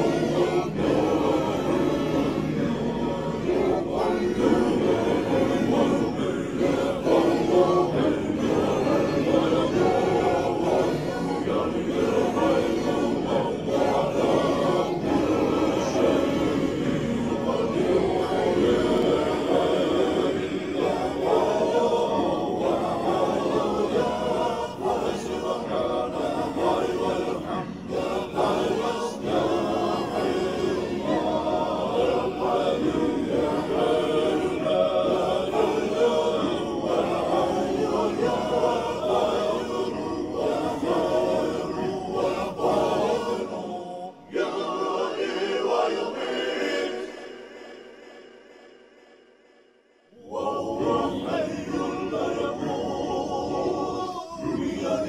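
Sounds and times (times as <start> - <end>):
group singing in chorus: 0.0 - 55.0.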